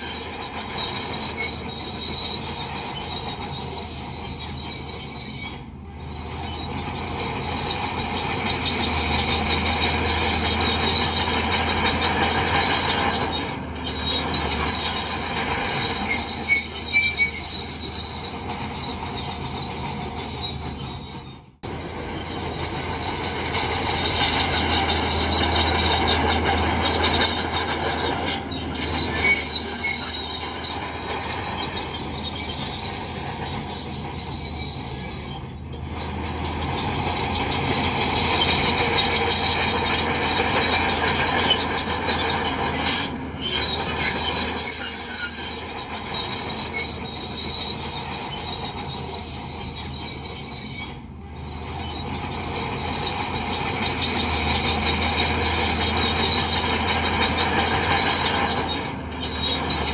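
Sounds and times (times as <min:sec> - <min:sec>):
diesel engine drone: 0:00.0 - 0:59.9
steel tracks squealing and clanking: 0:00.0 - 0:59.9.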